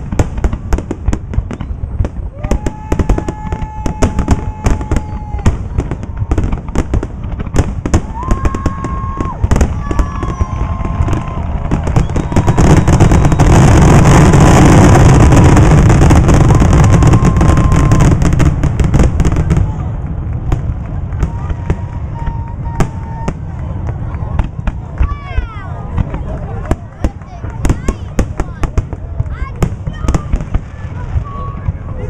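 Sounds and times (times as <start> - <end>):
fireworks banging: 0.0 - 32.0
whistling fireworks: 0.0 - 32.0.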